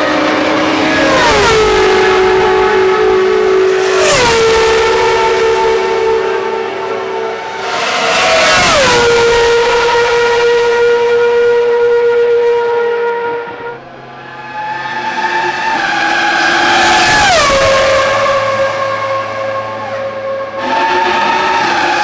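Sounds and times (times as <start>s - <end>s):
racing car engines at full throttle: 0.0s - 22.0s.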